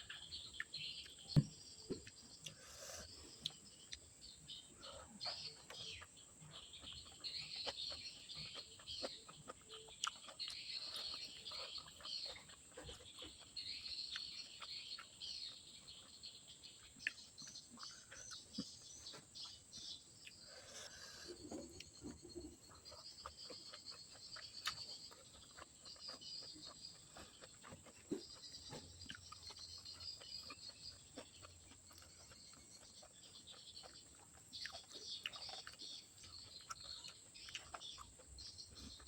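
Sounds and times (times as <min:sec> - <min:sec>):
chewing food: 0:00.0 - 0:39.0
crunchy chewing: 0:00.0 - 0:39.0.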